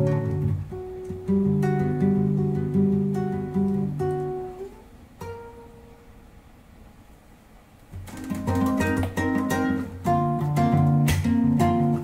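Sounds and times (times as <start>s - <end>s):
acoustic guitar playing: 0.0s - 6.6s, 7.9s - 12.0s.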